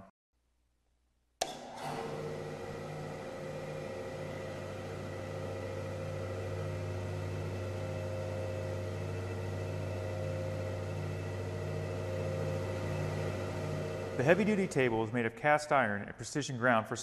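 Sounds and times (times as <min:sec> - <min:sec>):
bandsaw humming: 0:01.5 - 0:15.1.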